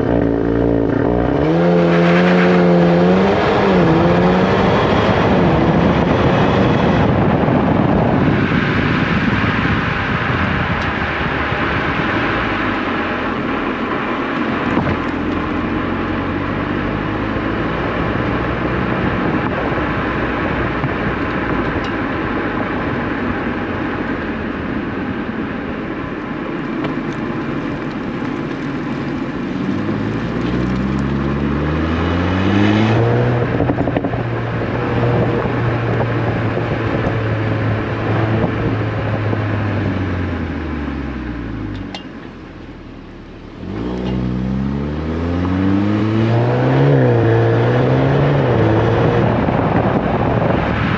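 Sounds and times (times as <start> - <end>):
car exhaust drone: 0.0 - 50.9
road noise: 0.0 - 50.9.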